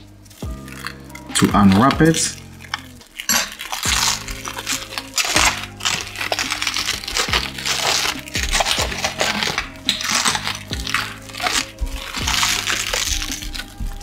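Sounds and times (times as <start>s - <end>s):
lo-fi music with steady beat: 0.0s - 14.0s
plastic wrap crinkling: 0.0s - 14.0s.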